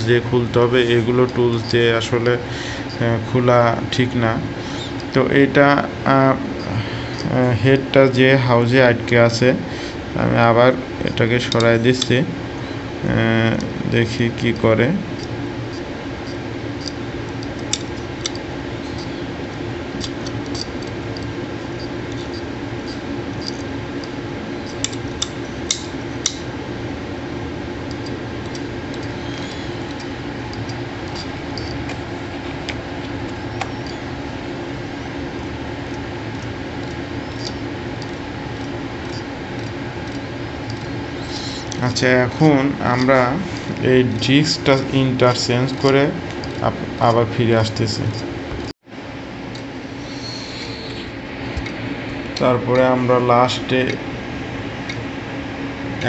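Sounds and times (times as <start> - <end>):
hard disk head ticking: 0.0 - 9.4, 10.2 - 47.3
hard disk humming: 0.0 - 56.0.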